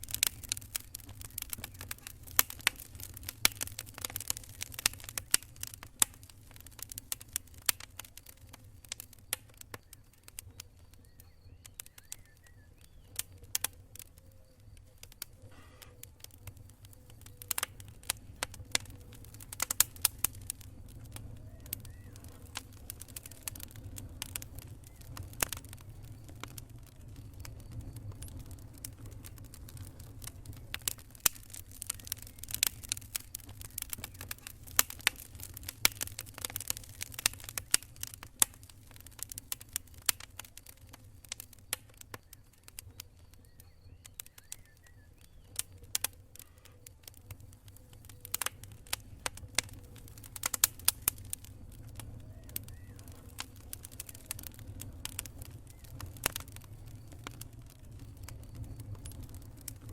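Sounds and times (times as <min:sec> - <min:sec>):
campfire crackling: 0:00.0 - 0:59.9
fire low rumble: 0:00.0 - 0:59.9.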